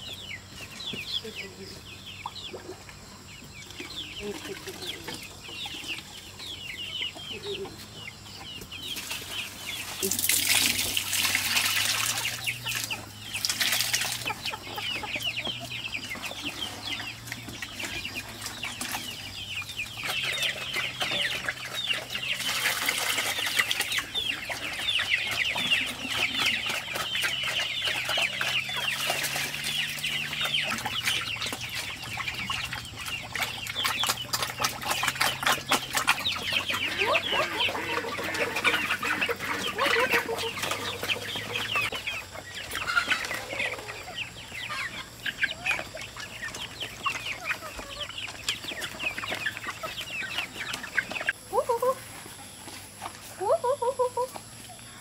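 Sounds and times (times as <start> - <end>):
chickens calling: 0.0 - 55.0.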